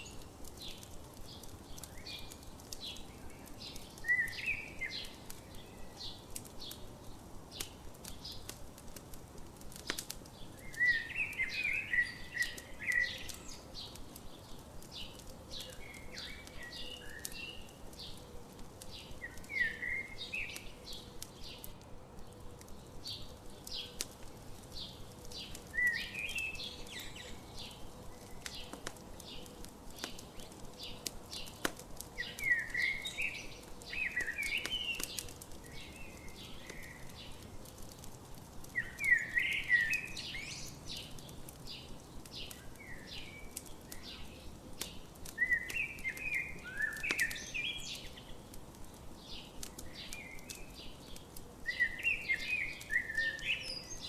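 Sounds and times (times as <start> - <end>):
songbird singing: 0.0 - 8.6, 9.7 - 54.0
campfire crackling and popping: 0.0 - 54.0.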